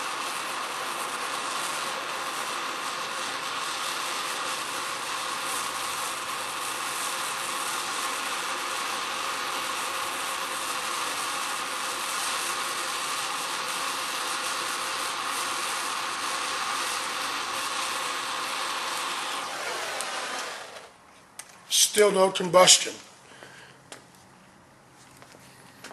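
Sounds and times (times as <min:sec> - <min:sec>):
gas torch hissing: 0:00.0 - 0:21.1.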